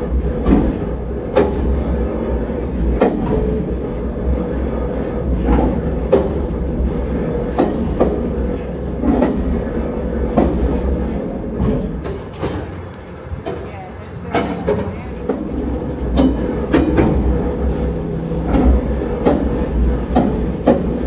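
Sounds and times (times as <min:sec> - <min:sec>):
rail vehicle rumble and hum: 0:00.0 - 0:21.0
wheels knocking over rail joints: 0:00.0 - 0:21.0.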